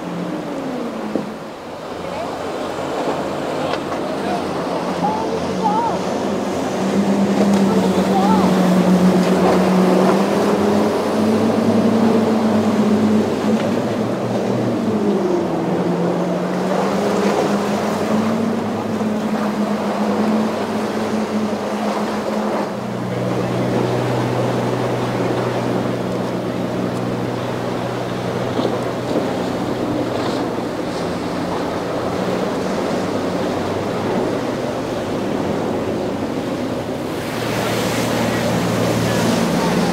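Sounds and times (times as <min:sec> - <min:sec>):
motorboat engines droning: 0:00.0 - 0:39.9
water wash: 0:00.0 - 0:39.9
wind: 0:00.0 - 0:39.9.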